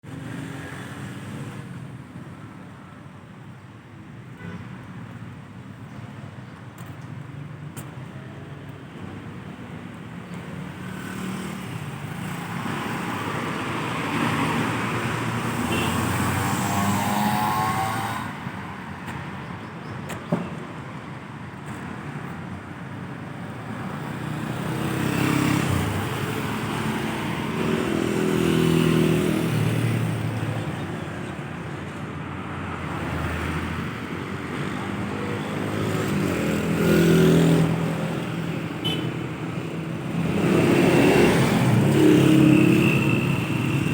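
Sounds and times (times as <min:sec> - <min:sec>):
vehicle engines passing: 0:06.2 - 0:43.9.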